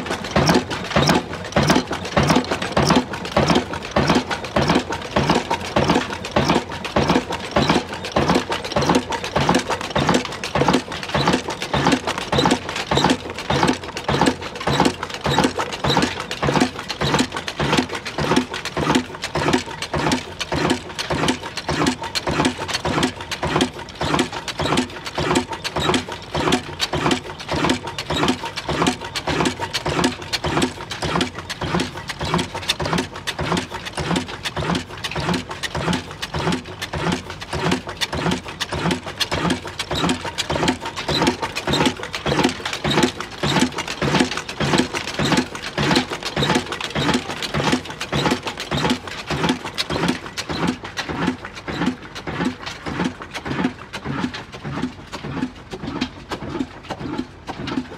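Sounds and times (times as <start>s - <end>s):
stationary diesel engine running: 0.0s - 57.9s.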